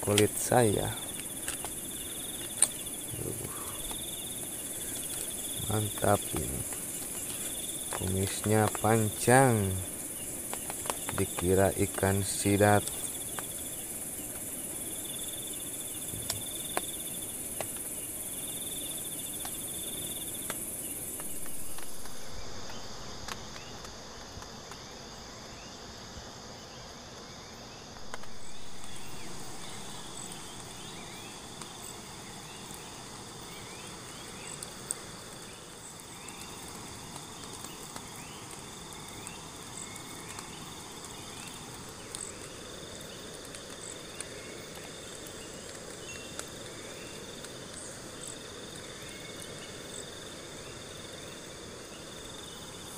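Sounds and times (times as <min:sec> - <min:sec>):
crickets and insects trilling: 0:00.0 - 0:52.9.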